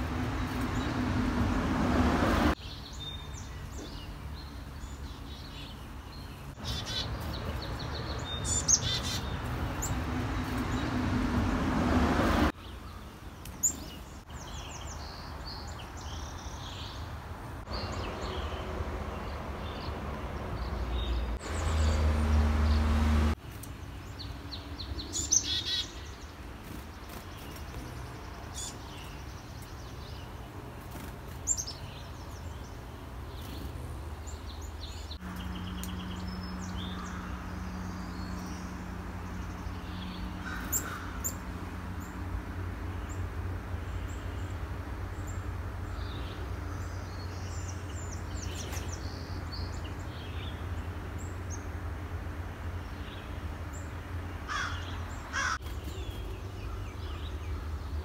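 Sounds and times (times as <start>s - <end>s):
birds chirping: 0.0s - 51.8s, 52.6s - 58.0s.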